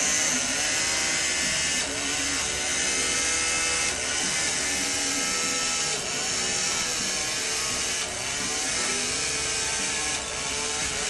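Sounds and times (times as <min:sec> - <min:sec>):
mechanical whir of gears: 0:00.0 - 0:11.0.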